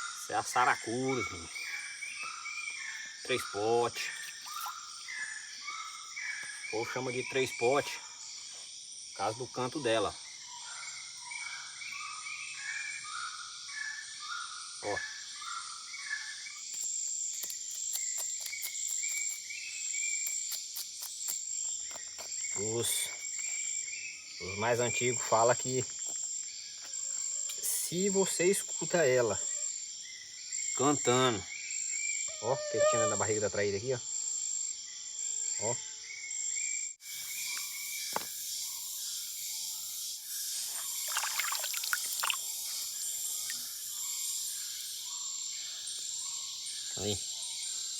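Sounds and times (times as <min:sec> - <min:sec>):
insects chorus: 0:00.0 - 0:47.9.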